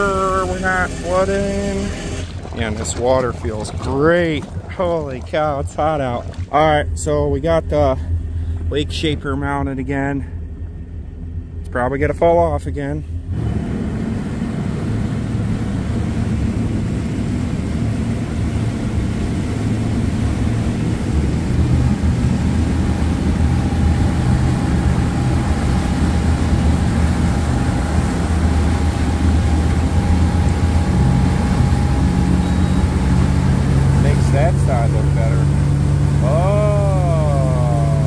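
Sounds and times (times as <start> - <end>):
boat engine running: 0.0 - 38.0
boat wake churning: 0.0 - 38.0.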